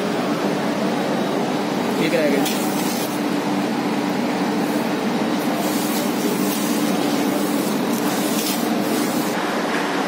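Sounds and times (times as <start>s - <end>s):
machinery rumbling with hum: 0.0s - 10.0s.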